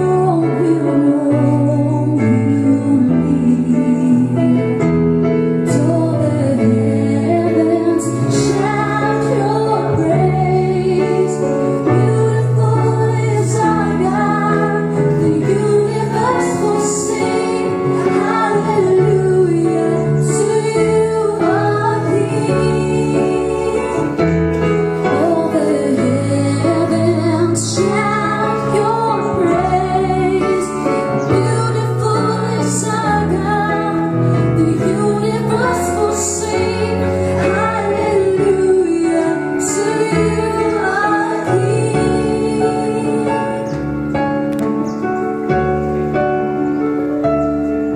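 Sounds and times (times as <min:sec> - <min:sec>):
woman singing: 0:00.0 - 0:04.8, 0:05.6 - 0:24.3, 0:25.0 - 0:43.8
instrumental accompaniment: 0:00.0 - 0:47.9.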